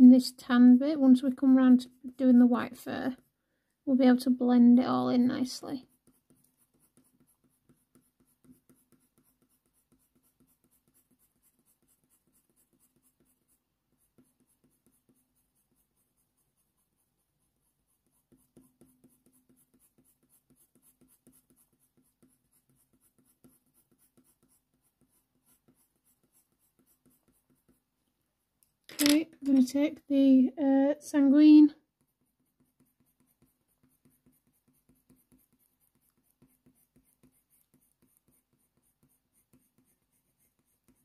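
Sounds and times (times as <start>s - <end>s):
pencil scratching on paper: 0.0s - 3.4s, 4.0s - 28.0s, 31.6s - 41.0s.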